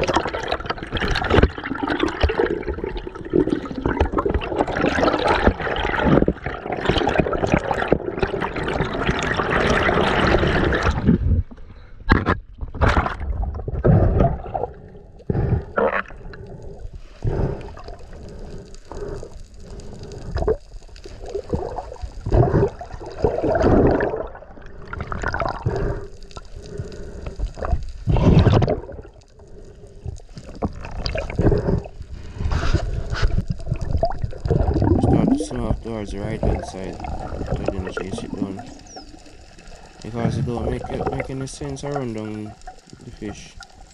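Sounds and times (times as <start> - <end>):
water splashing and gurgling: 0.0 - 43.9.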